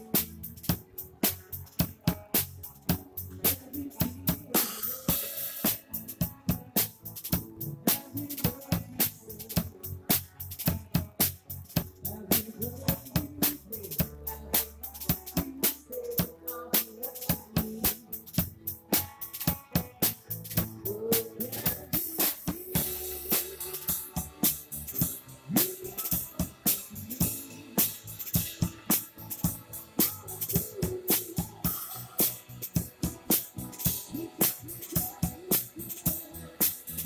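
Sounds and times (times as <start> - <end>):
backing music: 0.0 - 37.0
drum kit playing a beat: 0.0 - 37.0.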